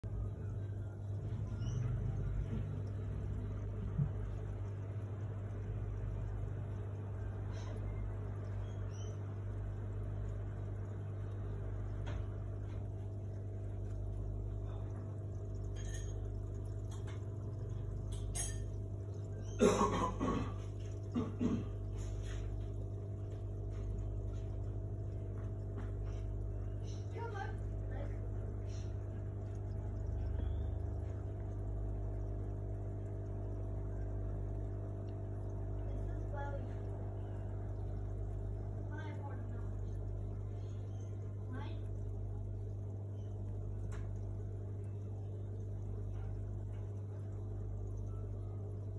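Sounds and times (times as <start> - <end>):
air pump hum: 0.0 - 48.9.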